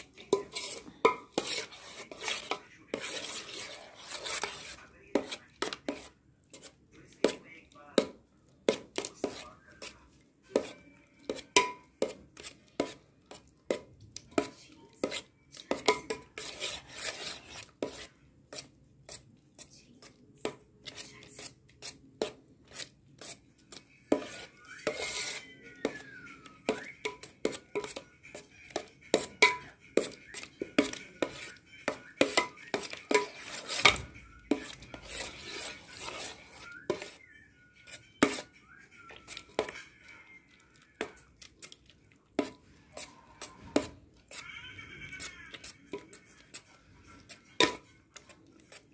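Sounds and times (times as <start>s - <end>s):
spoon scraping steel bowl: 0.0s - 48.9s.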